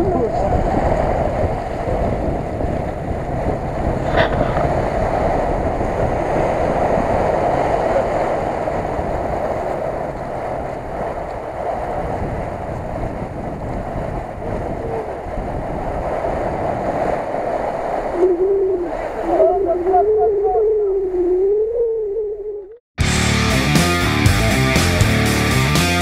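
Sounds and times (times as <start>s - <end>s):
wind on microphone: 0.0s - 22.7s.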